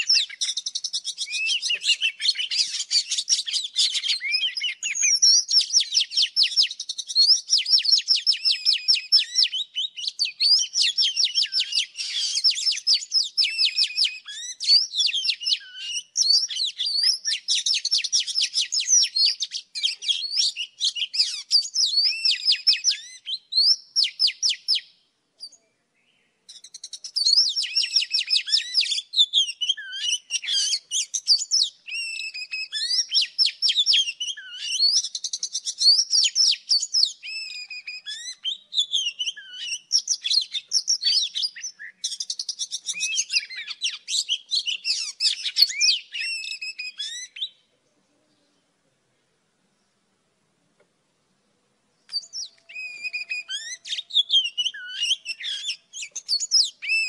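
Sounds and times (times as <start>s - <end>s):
bird song with whistles and chatter: 0.0s - 47.7s, 52.0s - 57.0s.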